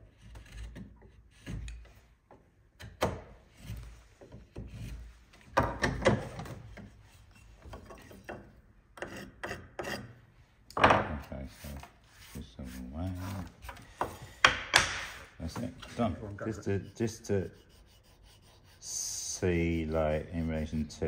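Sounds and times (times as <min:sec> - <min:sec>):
chisel scraping wood: 0:00.0 - 0:10.2, 0:11.1 - 0:21.0.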